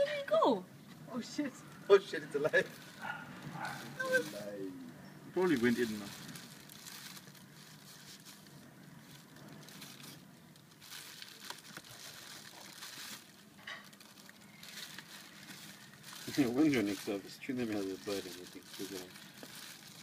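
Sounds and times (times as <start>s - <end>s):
rustling and scraping: 1.7s - 20.0s.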